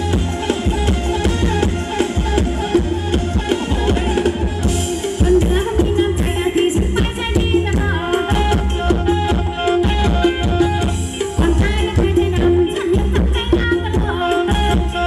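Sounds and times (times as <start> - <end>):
heavy bass: 0.0 - 15.0
live band dance music: 0.0 - 15.0
steady drum beat: 0.0 - 15.0.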